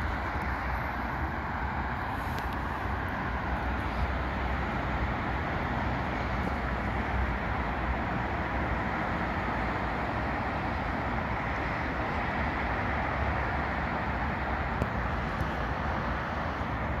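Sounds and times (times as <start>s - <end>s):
motorway traffic: 0.0s - 17.0s.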